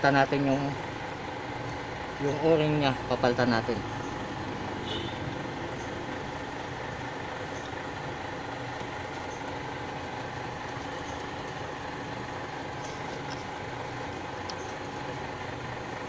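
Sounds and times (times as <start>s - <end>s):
engine idling hum: 0.0s - 16.0s.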